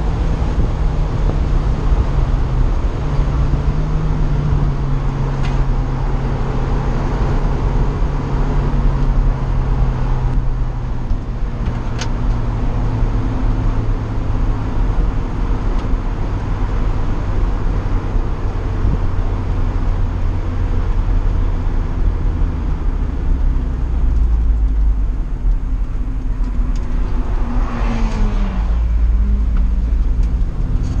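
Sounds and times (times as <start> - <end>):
car engine slowing: 0.0 - 31.0
wind and road noise: 0.0 - 31.0.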